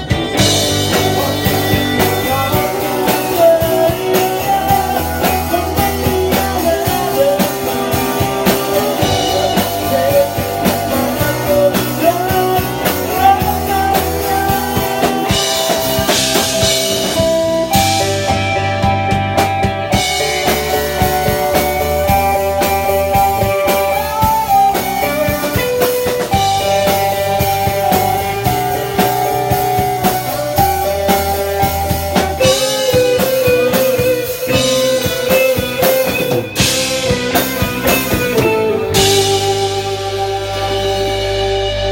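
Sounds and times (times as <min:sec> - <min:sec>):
bass guitar: 0:00.0 - 0:41.9
drum kit beat: 0:00.0 - 0:41.9
electric guitar: 0:00.0 - 0:41.9.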